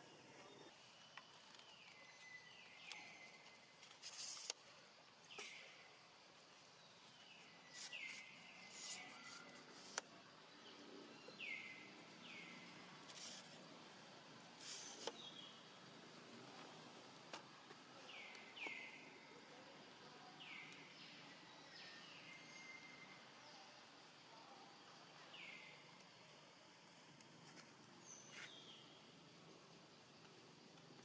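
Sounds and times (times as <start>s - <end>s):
outdoor background hiss: 0.0s - 31.0s.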